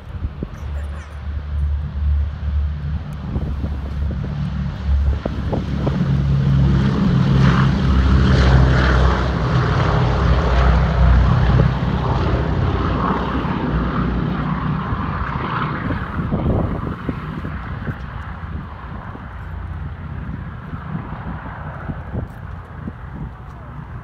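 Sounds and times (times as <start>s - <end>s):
deep propeller drone: 0.0s - 24.0s
propeller plane taking off: 0.0s - 24.0s.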